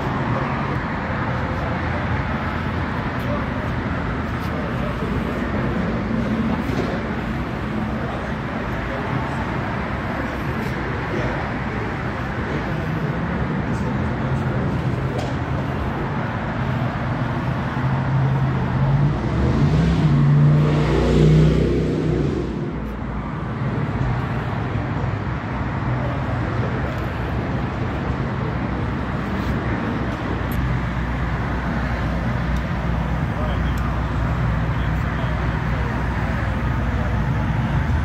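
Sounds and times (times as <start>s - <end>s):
traffic rumble: 0.0s - 38.0s
vehicle engine hum: 0.0s - 38.0s.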